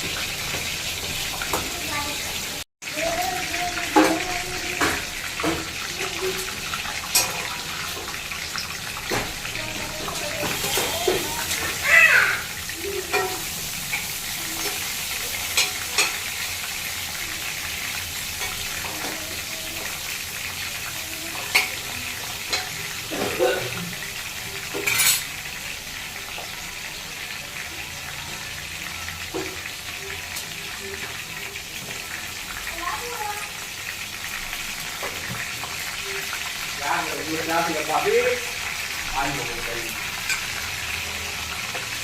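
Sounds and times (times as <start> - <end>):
patties sizzling in oil: 0.0 - 42.0.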